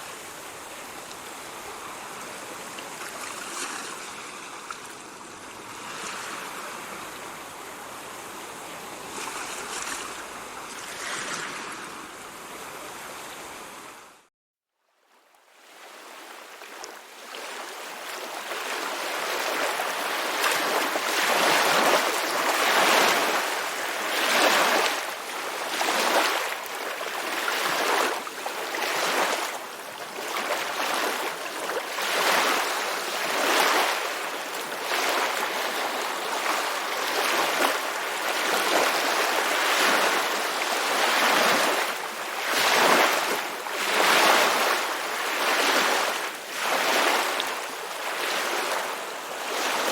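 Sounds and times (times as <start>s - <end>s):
ocean waves breaking: 0.0s - 14.1s, 15.7s - 49.9s.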